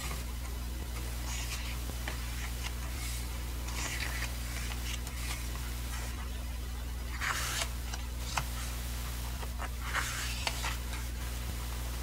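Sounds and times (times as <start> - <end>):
book pages turning: 0.0 - 11.2
steady low hum: 0.0 - 12.0.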